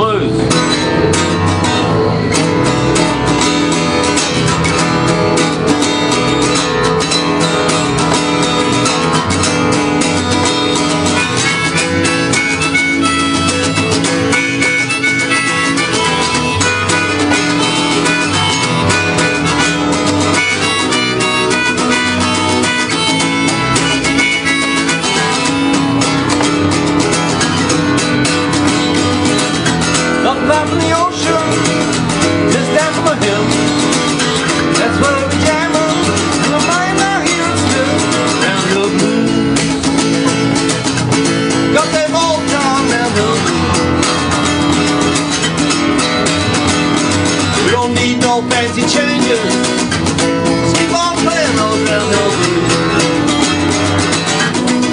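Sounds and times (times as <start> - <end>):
guitar rhythm: 0.0 - 54.9
harmonica melody: 0.0 - 54.9.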